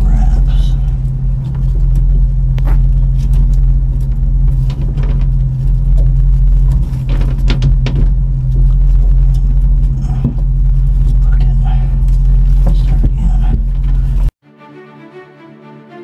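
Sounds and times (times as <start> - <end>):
low mechanical drone: 0.0 - 14.4.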